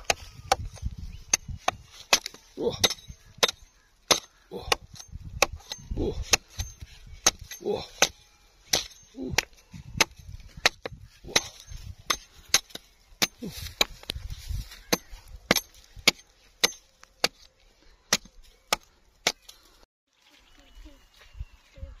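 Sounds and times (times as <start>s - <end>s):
axe chopping tree trunk: 0.0s - 14.1s, 14.9s - 17.5s, 18.1s - 19.6s.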